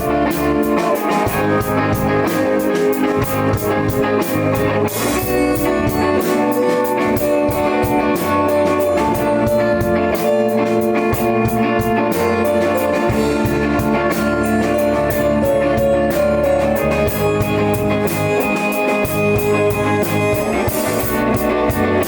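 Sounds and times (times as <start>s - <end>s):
electric guitar: 0.0s - 22.0s
rock band playing live: 0.0s - 22.0s.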